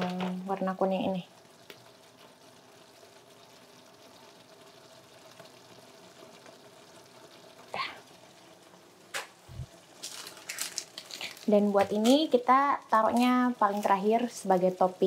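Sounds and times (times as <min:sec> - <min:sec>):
sauce simmering in a frying pan: 0:00.0 - 0:15.0.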